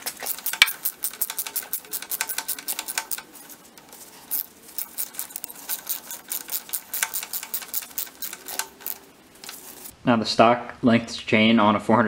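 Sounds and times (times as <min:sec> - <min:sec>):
hand ratchet clicking: 0:00.0 - 0:09.9.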